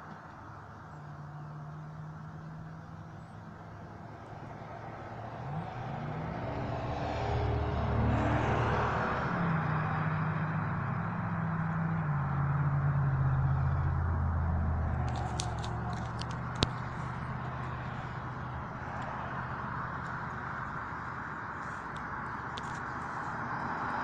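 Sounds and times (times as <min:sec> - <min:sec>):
engine hum: 0:00.0 - 0:24.0.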